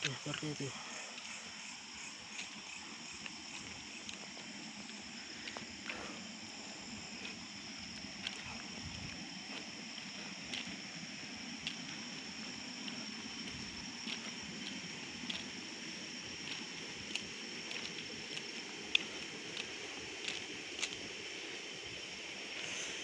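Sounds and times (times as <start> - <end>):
footsteps on paved road: 0.0 - 23.0
night insects trilling: 0.0 - 23.0.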